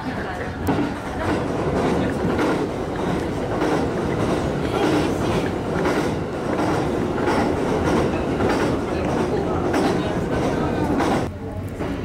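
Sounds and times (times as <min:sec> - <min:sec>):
clickety-clack over rail joints: 0:00.0 - 0:12.0
train wheels rumbling on rails: 0:00.0 - 0:12.0.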